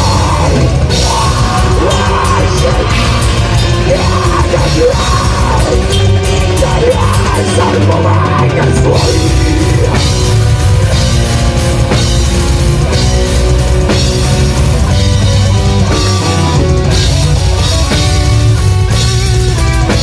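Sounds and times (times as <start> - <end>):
black metal band playing: 0.0 - 20.0.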